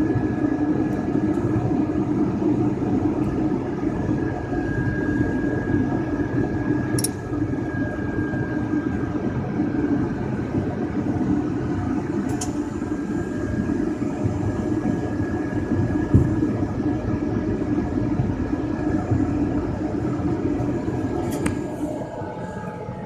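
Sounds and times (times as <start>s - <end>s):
propeller aircraft engine drone: 0.0s - 23.0s.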